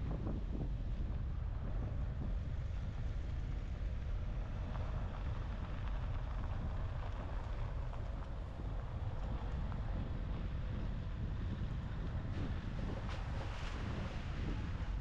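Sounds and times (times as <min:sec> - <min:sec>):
vehicle rumble: 0:00.0 - 0:15.0
wind buffeting microphone: 0:00.0 - 0:15.0.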